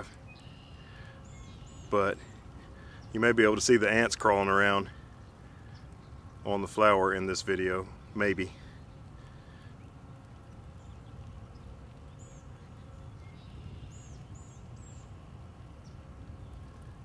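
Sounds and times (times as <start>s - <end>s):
bird chirps: 0.0s - 10.0s, 10.7s - 17.0s
low steady rumble: 0.0s - 17.0s.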